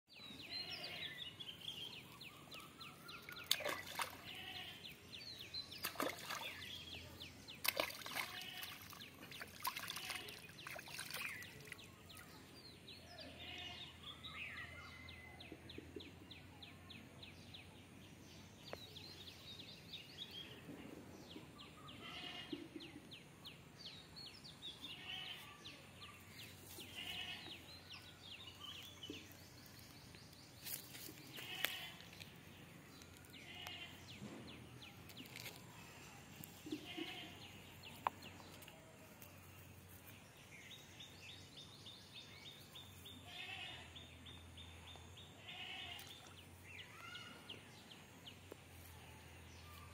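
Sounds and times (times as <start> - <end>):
birds chirping and trilling: 0.1 - 17.6, 21.3 - 39.5, 40.1 - 49.9
faint outdoor background noise: 0.1 - 49.9.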